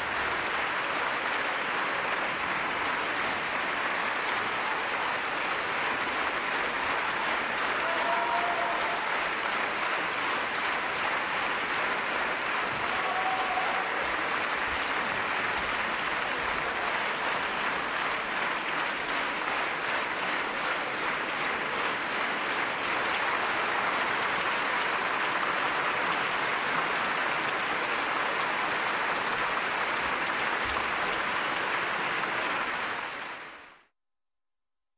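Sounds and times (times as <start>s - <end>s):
large audience applauding: 0.0s - 33.9s.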